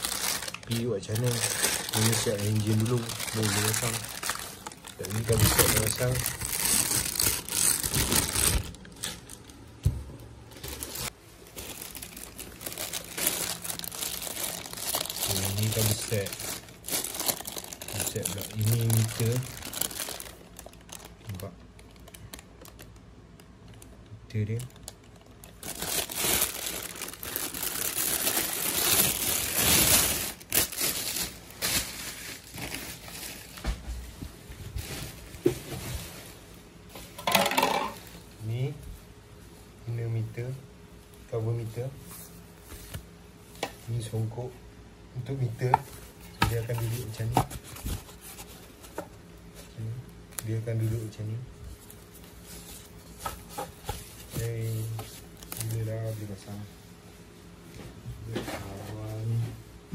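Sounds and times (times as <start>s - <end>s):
plastic bags crinkling: 0.0s - 33.7s, 34.7s - 38.4s, 45.4s - 56.3s.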